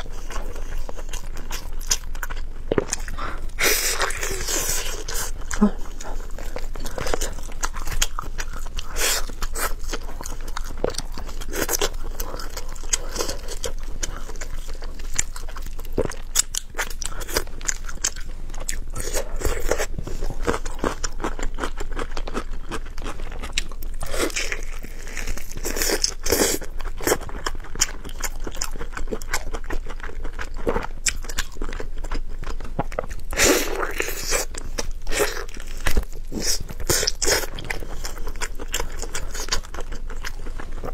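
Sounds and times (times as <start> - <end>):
person chewing and crunching: 0.0 - 40.9.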